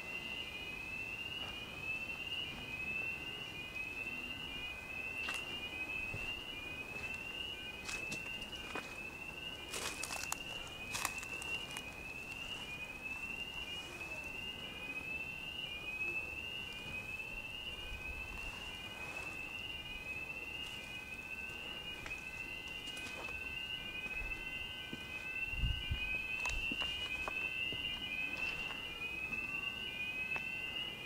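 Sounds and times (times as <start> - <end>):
fire alarm whooping: 0.0 - 31.0
steady alarm tone: 0.0 - 31.0.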